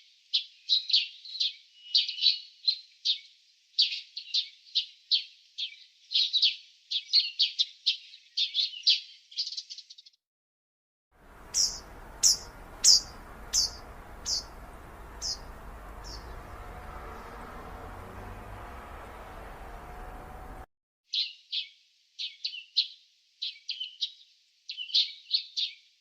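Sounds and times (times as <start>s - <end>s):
small birds chirping: 0.3s - 10.2s, 11.2s - 25.9s.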